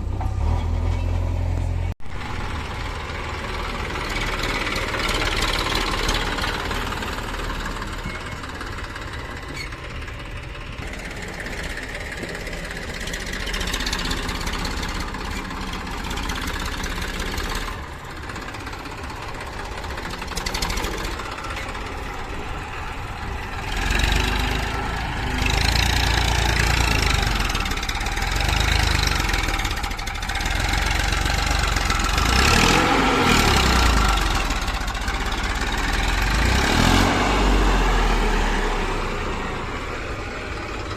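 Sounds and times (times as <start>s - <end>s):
diesel engines idling: 0.0s - 40.9s
heavy engine rumble: 0.0s - 40.9s.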